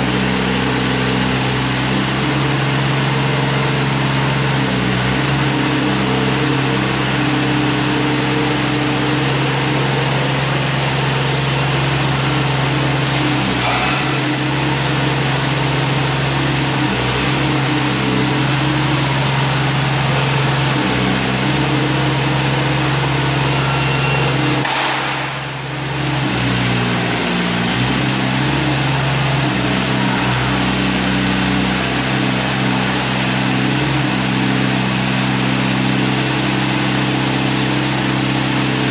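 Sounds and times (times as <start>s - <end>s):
demolition machine engine and hydraulics: 0.0s - 38.9s.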